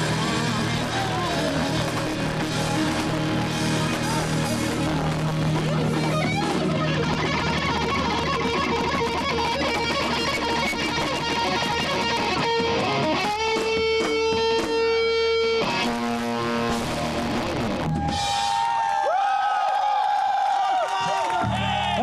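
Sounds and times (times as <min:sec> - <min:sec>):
electric guitar chords ringing: 0:00.0 - 0:18.5
live band playing: 0:00.0 - 0:18.7.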